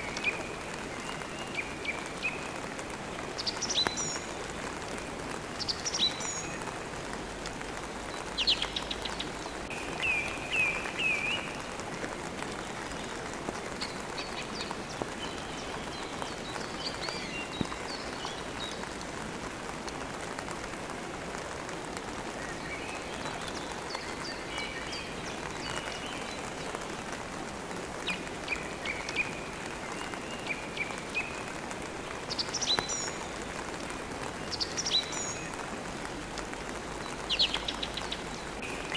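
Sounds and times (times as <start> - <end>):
songbirds chirping: 0.0 - 38.9
steady rain: 0.0 - 38.9.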